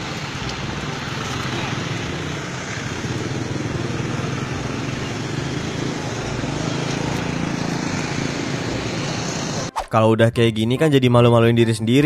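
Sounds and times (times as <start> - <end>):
vehicle engines idling: 0.0 - 9.7
road noise: 0.0 - 9.8.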